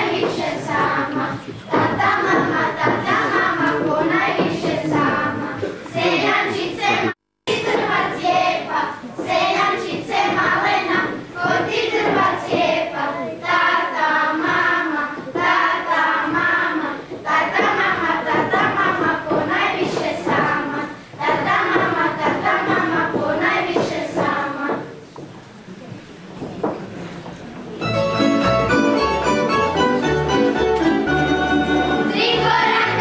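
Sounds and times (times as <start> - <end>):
children's choir singing: 0.0 - 25.0, 28.2 - 33.0.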